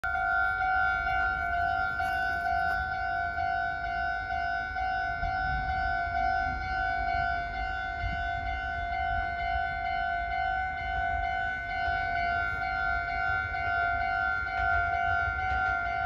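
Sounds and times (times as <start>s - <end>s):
electronic warning bell dinging: 0.0s - 16.0s.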